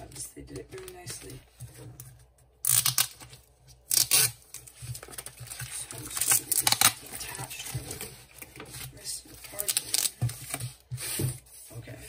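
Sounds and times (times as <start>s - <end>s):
cardboard and plastic crinkling: 0.0s - 12.0s.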